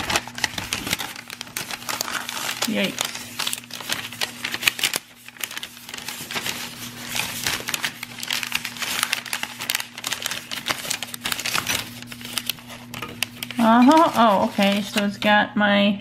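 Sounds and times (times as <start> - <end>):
packing paper crinkling: 0.0 - 15.2.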